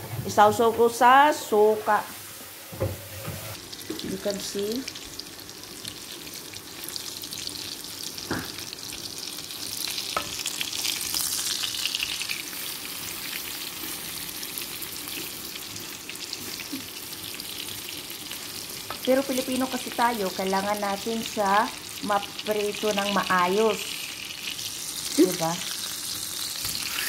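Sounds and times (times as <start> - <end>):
fish sizzling in a pan: 3.5 - 27.0.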